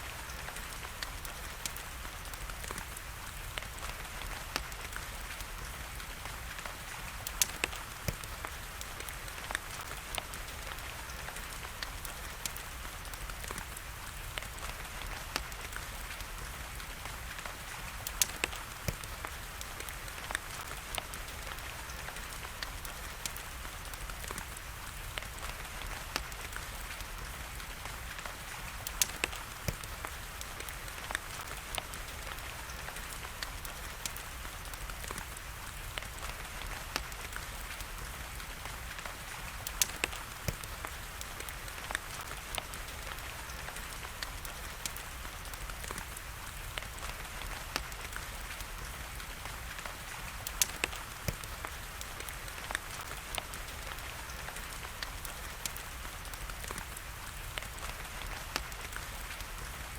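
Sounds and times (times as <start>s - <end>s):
rain falling: 0.0s - 59.9s
wood fire crackling: 0.0s - 59.9s.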